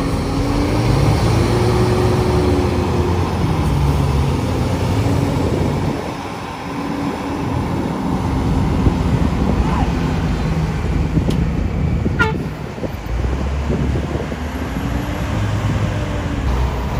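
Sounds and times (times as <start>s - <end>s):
heavy diesel engines under load: 0.0s - 16.9s.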